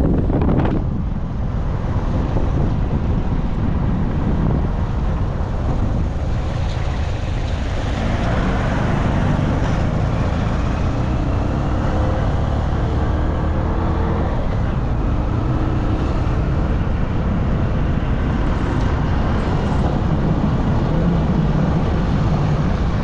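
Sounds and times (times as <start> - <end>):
passing vehicle engine: 0.0 - 23.0
road traffic noise: 0.0 - 23.0
wind buffeting microphone: 0.0 - 23.0.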